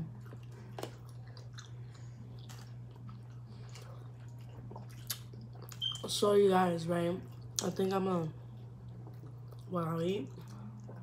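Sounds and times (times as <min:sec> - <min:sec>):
chewing and mouth sounds: 0:00.0 - 0:06.1, 0:07.2 - 0:11.0.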